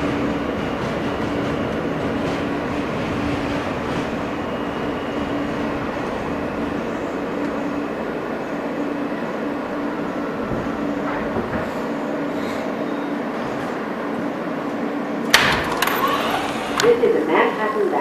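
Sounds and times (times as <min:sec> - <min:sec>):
subway car running noise: 0:00.0 - 0:18.0.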